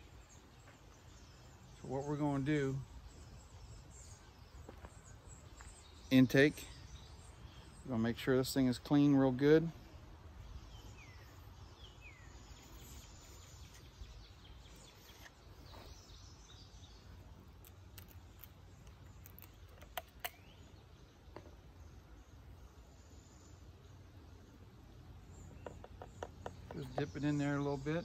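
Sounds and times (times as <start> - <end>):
bird chirps: 0.0 - 24.6, 25.2 - 28.0.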